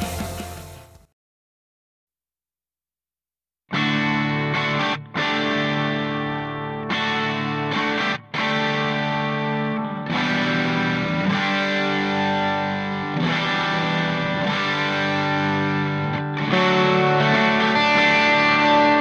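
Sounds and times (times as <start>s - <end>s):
distorted electric guitar chords: 0.0s - 1.1s, 3.7s - 19.0s.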